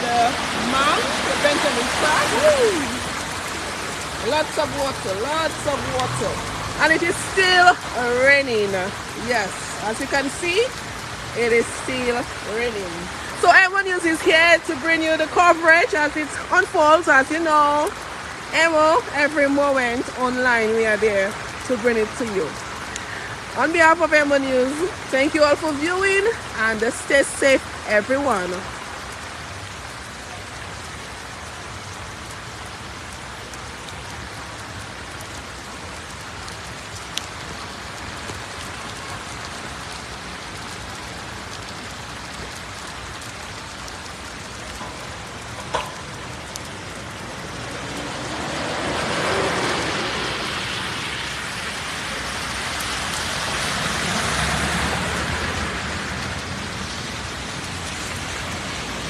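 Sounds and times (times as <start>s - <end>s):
heavy rain on street: 0.0s - 59.0s.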